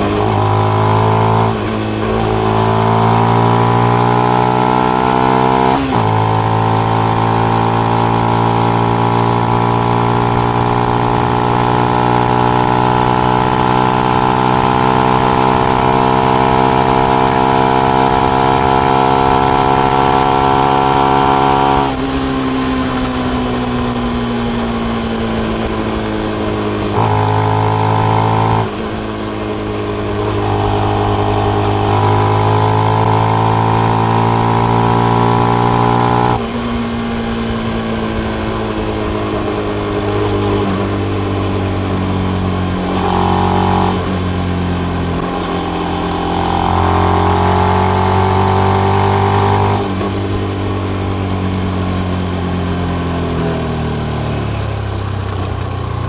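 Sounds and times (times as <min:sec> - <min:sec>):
motorcycle engine being ridden: 0:00.0 - 0:56.0.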